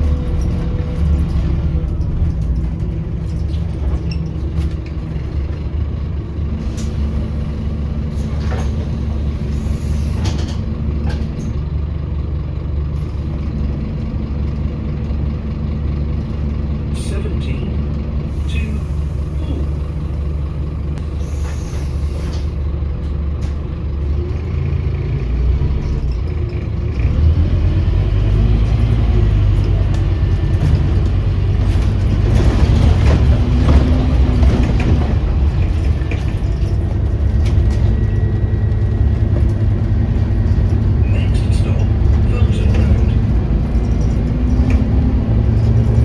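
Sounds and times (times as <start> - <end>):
bus diesel engine: 0.0 - 46.0
road rumble: 0.0 - 46.0.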